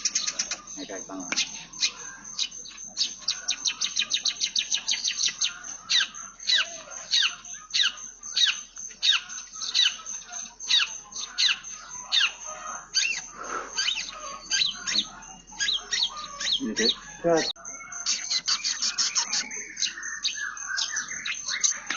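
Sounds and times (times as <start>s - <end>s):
bird chirping: 0.0s - 21.9s.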